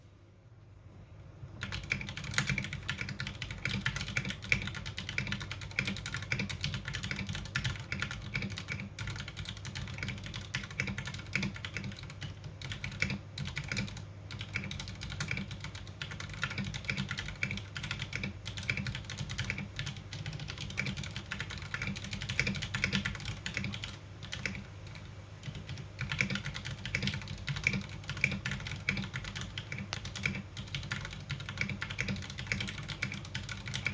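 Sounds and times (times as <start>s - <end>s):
mechanical keyboard typing: 1.6s - 33.9s.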